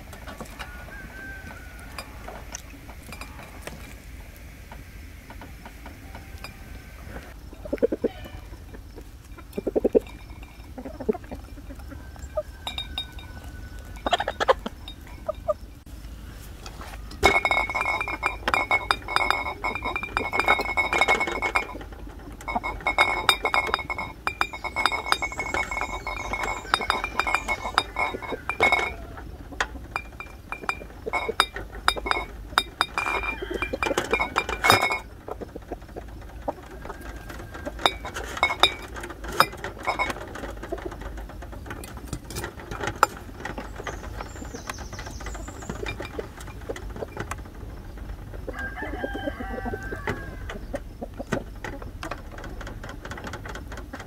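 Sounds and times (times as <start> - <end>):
clinks and knocks against glass jars: 0.0 - 3.9, 6.2 - 6.6, 7.7 - 15.8, 16.6 - 54.0
hen clucking: 0.0 - 54.0.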